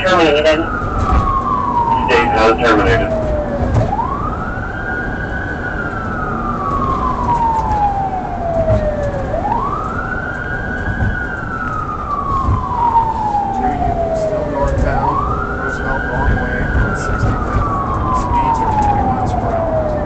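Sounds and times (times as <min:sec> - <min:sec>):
police siren wailing: 0:00.0 - 0:20.0
road and engine noise: 0:00.0 - 0:20.0.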